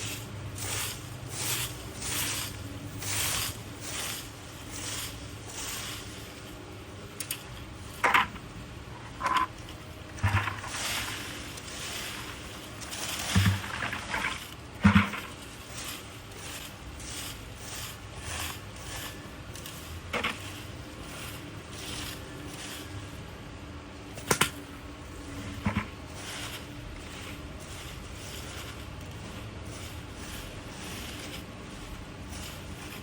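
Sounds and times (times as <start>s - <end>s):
dry leaves scraped on ground: 0.0s - 33.0s.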